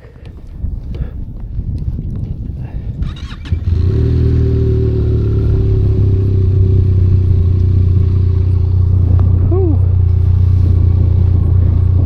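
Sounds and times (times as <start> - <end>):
motorcycle engine running steadily: 0.4 - 12.0.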